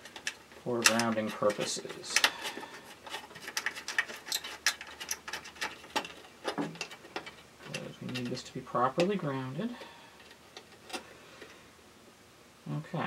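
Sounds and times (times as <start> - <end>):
small clicks and scratches: 0.0 - 11.6.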